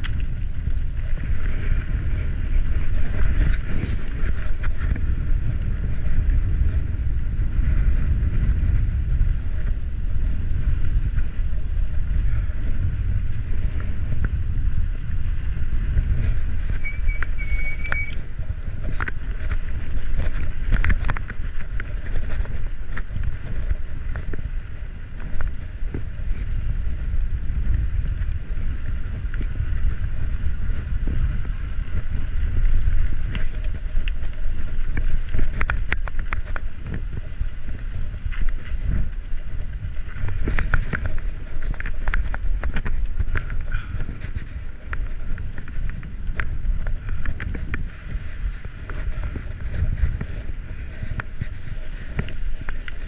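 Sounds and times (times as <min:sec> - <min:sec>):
wind rumbling on microphone: 0:00.0 - 0:53.0.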